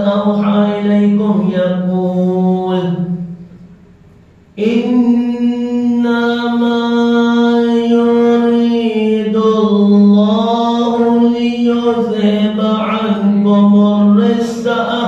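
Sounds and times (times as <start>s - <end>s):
man chanting: 0.0s - 3.5s, 4.6s - 15.0s.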